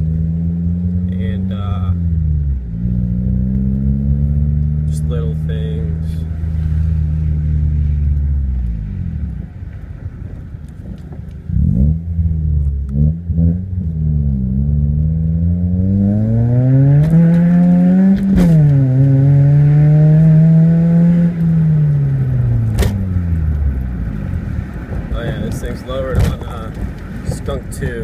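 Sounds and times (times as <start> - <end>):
car engine revving: 0.0 - 10.8, 11.4 - 27.8.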